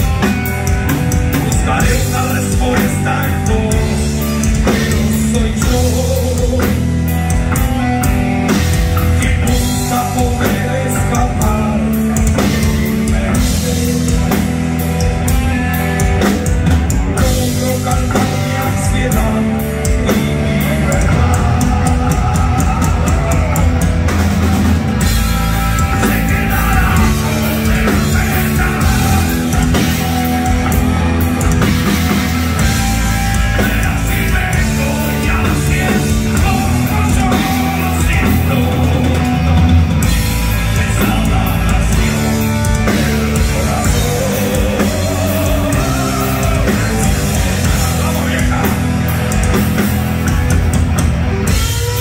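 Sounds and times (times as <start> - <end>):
distorted electric guitar: 0.0 - 52.0
drum kit: 0.0 - 52.0
electric bass: 0.0 - 52.0.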